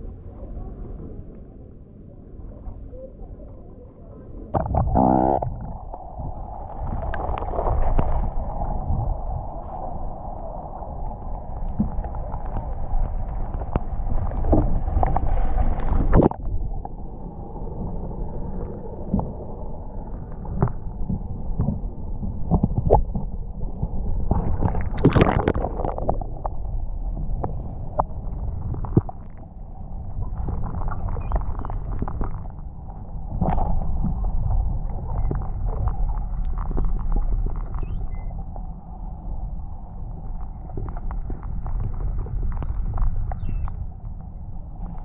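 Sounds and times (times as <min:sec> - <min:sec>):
muffled water sloshing underwater: 0:00.0 - 0:45.0.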